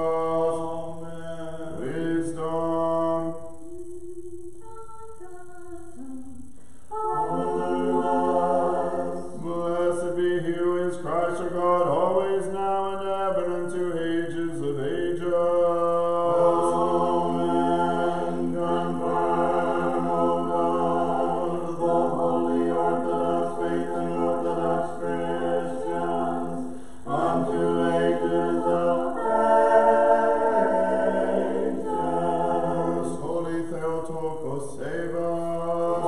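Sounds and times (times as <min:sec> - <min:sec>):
choir chanting a cappella: 0:00.0 - 0:36.0.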